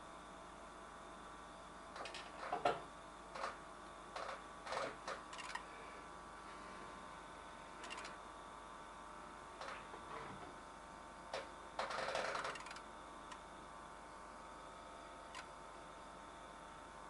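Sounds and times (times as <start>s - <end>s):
cooling fan humming: 0.0s - 17.0s.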